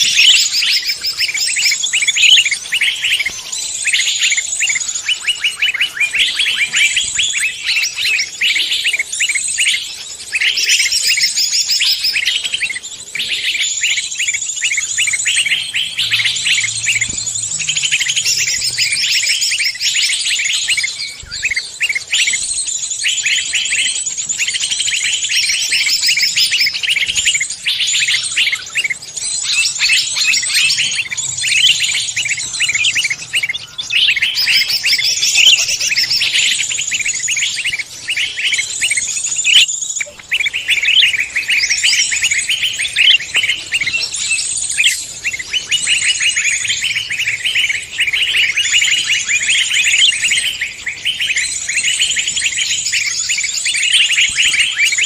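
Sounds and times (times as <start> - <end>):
songbird chattering and trilling: 0.0 - 55.0.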